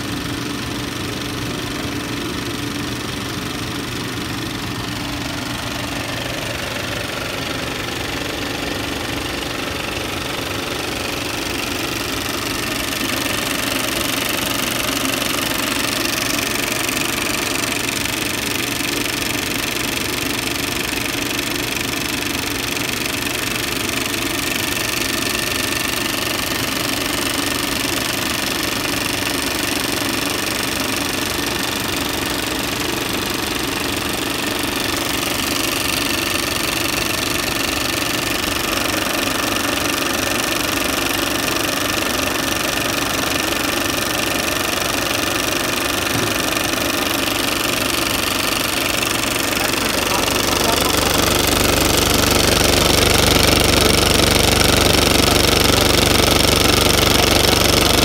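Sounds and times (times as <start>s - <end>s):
film projector clattering: 0.0s - 58.0s
projector hum: 0.0s - 58.0s.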